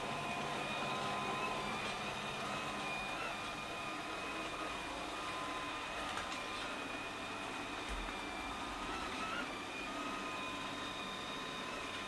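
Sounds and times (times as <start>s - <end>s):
robot vacuum motor whirring: 0.0s - 12.0s.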